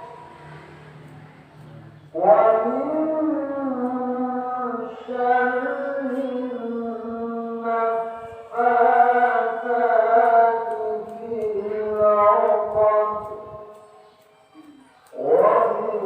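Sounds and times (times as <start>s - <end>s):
person chanting long notes: 0.0s - 16.0s.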